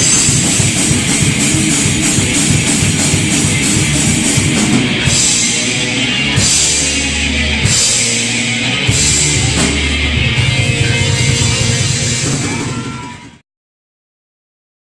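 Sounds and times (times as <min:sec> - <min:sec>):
thrash metal band playing: 0:00.0 - 0:13.4.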